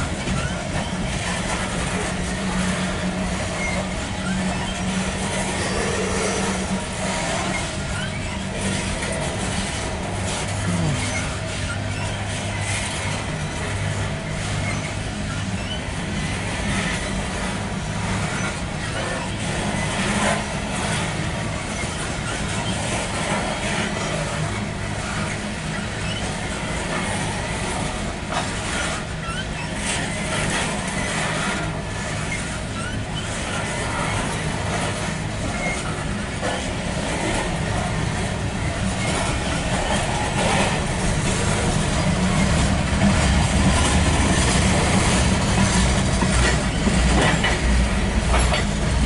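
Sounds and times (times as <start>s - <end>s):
train wheels clacking on rails: 0.0s - 49.0s.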